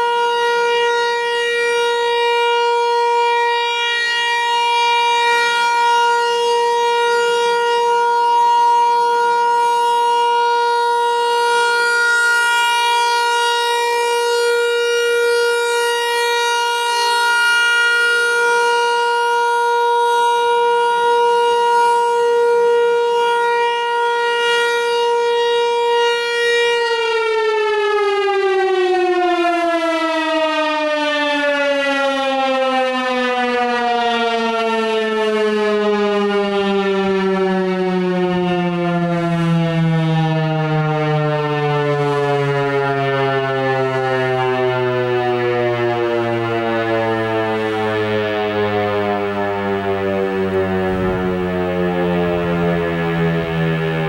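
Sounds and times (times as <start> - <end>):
outdoor warning siren winding down: 0.0 - 54.0.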